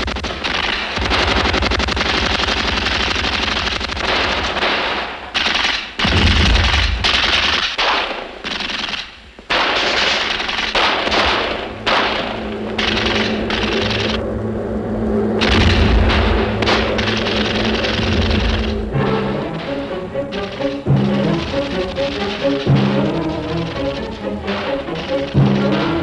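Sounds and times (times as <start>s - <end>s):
machine-gun fire bursts: 0.0s - 14.2s, 15.4s - 18.8s, 20.3s - 26.0s.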